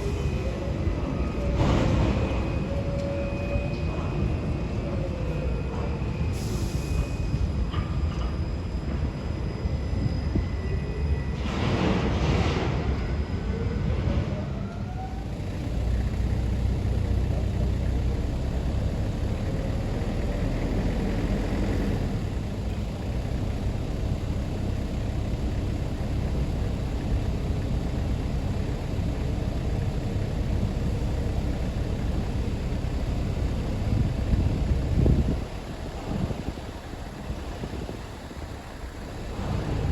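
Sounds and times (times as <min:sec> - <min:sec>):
tugboat diesel engine droning: 0:00.0 - 0:39.9.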